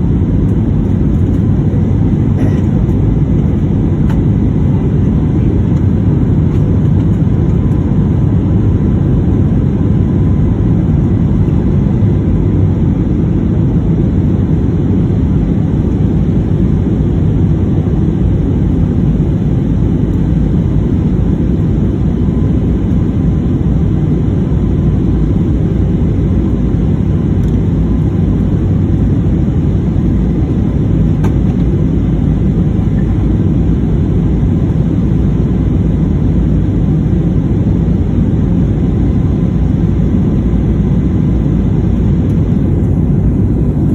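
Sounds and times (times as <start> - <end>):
airliner engine rumble: 0.0 - 43.9.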